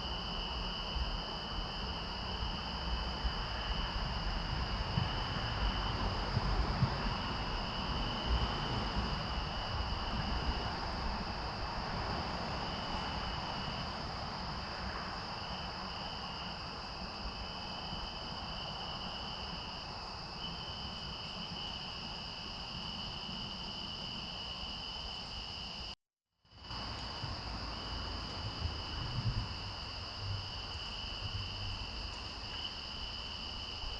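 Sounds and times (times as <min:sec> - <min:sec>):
low wind rumble: 0:00.0 - 0:26.0, 0:26.6 - 0:33.9
night insects trilling: 0:00.0 - 0:33.9.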